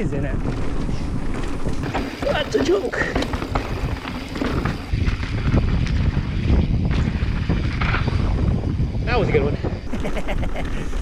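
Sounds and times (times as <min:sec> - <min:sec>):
knocks and rattles on rocky trail: 0:00.0 - 0:11.0
wind buffeting microphone: 0:00.0 - 0:11.0.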